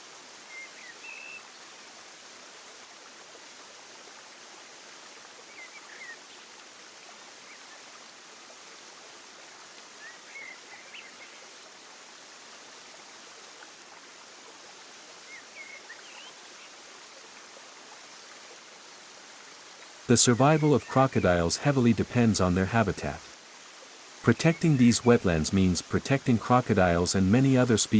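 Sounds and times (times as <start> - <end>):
flowing water: 0.0 - 27.9.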